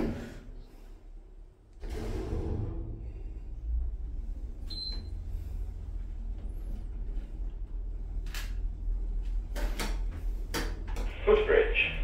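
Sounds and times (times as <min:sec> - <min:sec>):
lift car rumble and hum: 0:00.0 - 0:12.0.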